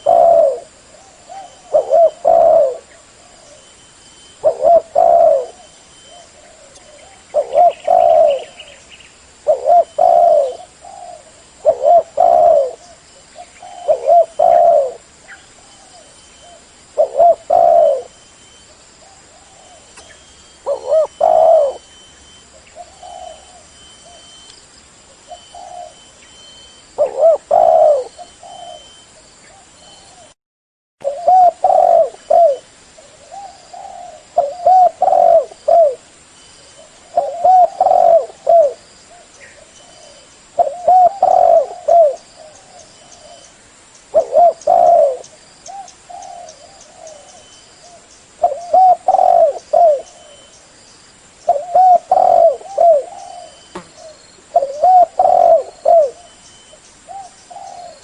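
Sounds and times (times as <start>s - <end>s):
dove cooing: 0.0s - 8.8s, 9.4s - 18.2s, 19.0s - 24.5s, 25.1s - 30.3s, 31.0s - 36.1s, 36.7s - 43.5s, 44.1s - 50.5s, 51.4s - 58.0s.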